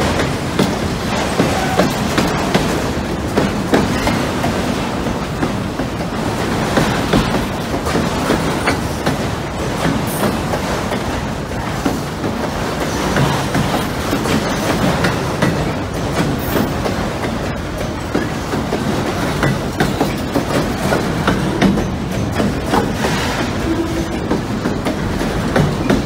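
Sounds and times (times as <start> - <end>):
clattering over rail joints: 0.0 - 26.0
train wheels rumbling on rail: 0.0 - 26.0.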